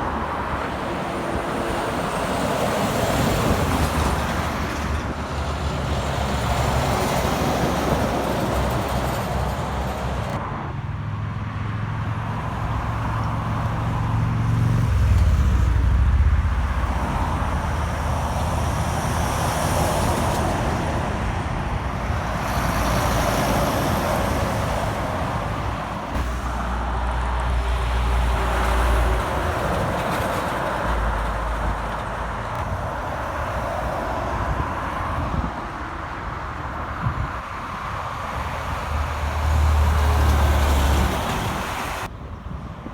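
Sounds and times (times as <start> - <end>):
traffic driving past: 0.0 - 42.6.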